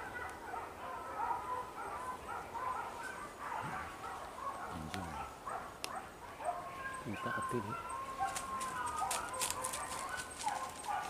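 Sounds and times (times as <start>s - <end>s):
dogs yelping and barking: 0.0s - 11.0s.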